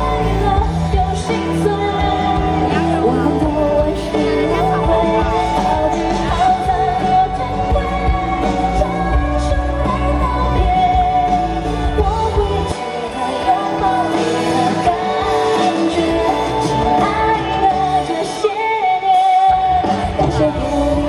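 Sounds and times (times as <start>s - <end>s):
live pop-rock band: 0.0s - 21.0s
woman singing: 0.0s - 21.0s.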